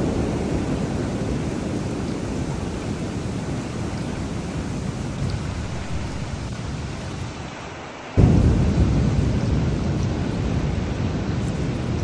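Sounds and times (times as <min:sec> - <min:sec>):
thunderclap rumbling: 0:00.0 - 0:07.4, 0:08.2 - 0:12.0
heavy rain: 0:00.0 - 0:12.0.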